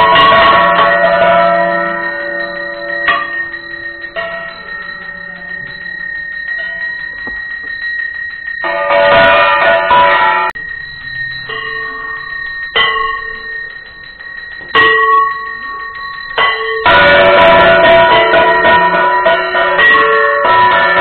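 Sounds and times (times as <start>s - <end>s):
brass hand bell ringing: 0.0s - 21.0s.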